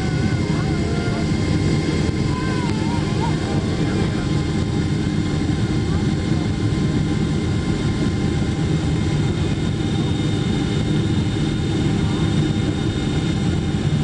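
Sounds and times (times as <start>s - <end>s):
deep airliner cabin rumble: 0.0s - 14.0s.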